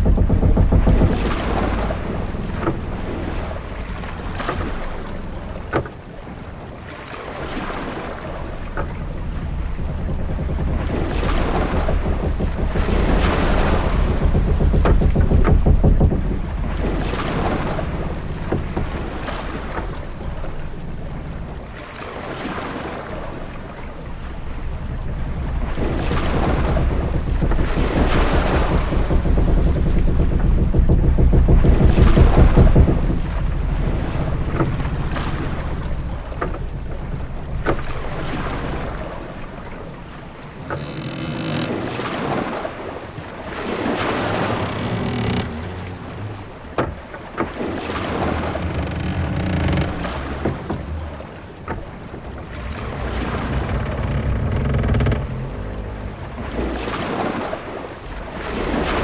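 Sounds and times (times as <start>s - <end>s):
sharp knocks: 0.0s - 6.0s, 8.3s - 21.8s, 23.6s - 42.6s, 43.6s - 57.5s
low rumble of wind: 0.0s - 59.0s
waves washing: 0.0s - 59.0s.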